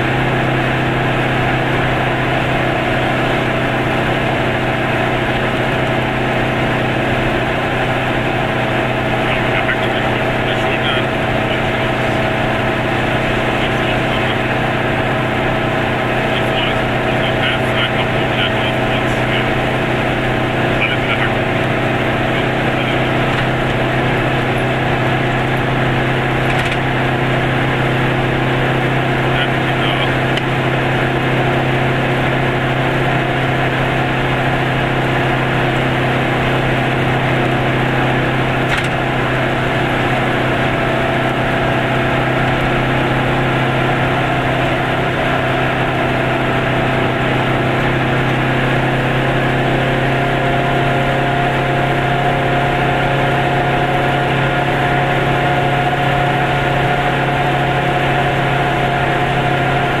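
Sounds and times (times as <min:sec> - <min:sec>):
high engine whine: 0:00.0 - 1:00.0
road noise: 0:00.0 - 1:00.0
two-stroke engine droning: 0:00.0 - 1:00.0.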